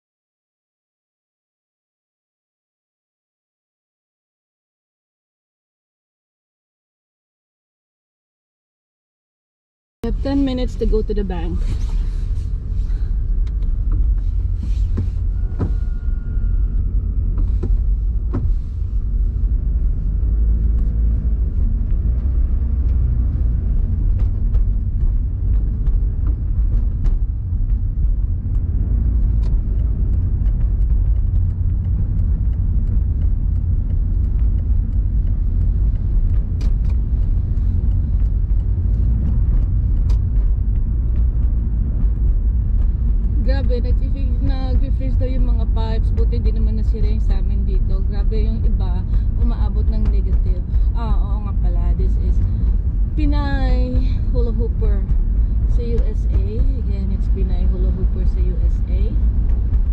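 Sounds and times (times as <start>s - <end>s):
car engine rumbling: 10.0s - 59.9s.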